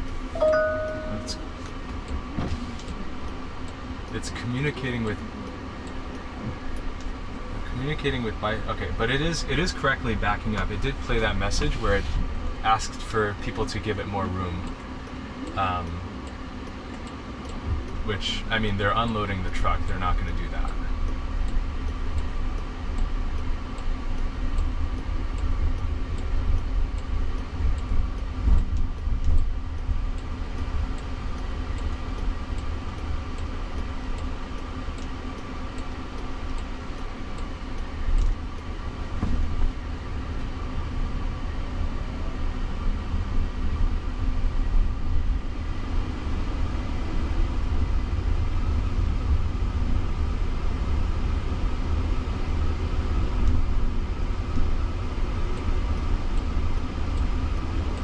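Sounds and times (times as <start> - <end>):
faint steady hum: 0.0 - 58.0
road and tyre rumble: 0.0 - 58.0.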